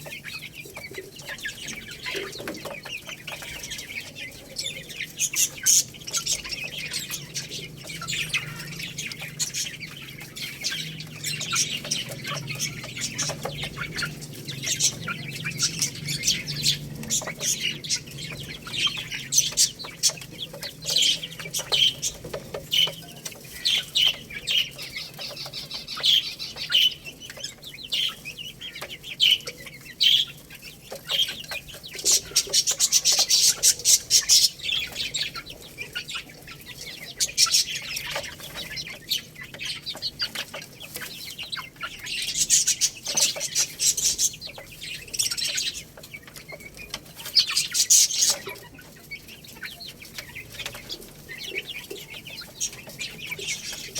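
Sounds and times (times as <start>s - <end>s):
young chickens peeping: 0.0s - 53.9s.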